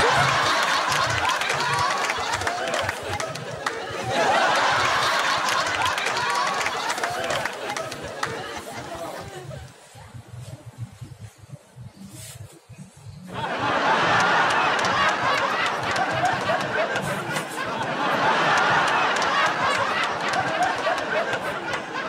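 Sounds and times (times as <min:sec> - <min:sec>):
laugh track: 0:00.0 - 0:11.7, 0:13.2 - 0:22.0.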